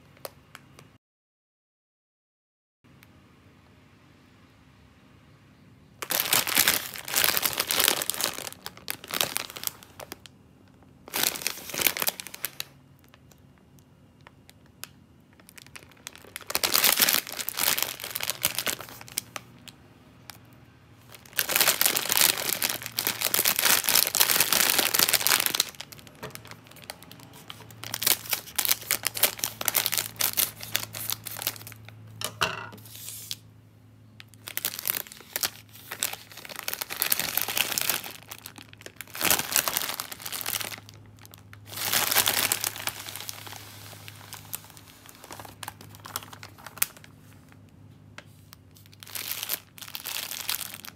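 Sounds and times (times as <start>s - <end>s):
plastic bag crinkling: 6.0s - 13.5s, 14.2s - 20.4s, 21.0s - 33.4s, 34.2s - 47.7s, 48.5s - 50.9s.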